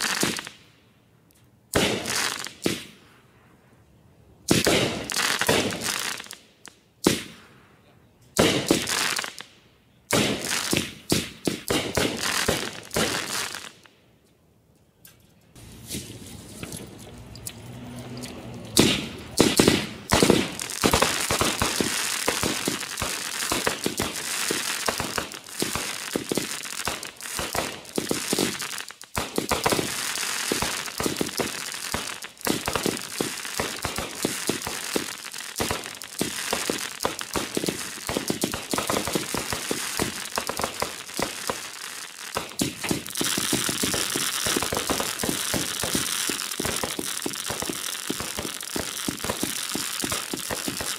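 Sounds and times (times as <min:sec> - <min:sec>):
loud firework bangs: 0:00.0 - 0:00.5, 0:01.7 - 0:03.0, 0:04.5 - 0:06.4, 0:07.0 - 0:07.5, 0:08.4 - 0:09.4, 0:10.1 - 0:13.8, 0:18.8 - 0:50.9
firework crackling: 0:00.0 - 0:00.6, 0:01.7 - 0:03.1, 0:04.5 - 0:07.4, 0:08.4 - 0:13.9, 0:15.6 - 0:50.9.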